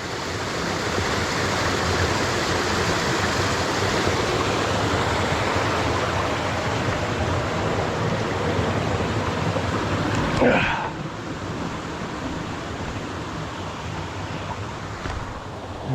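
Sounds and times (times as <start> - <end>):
creek water rushing over rocks: 0.0 - 15.9.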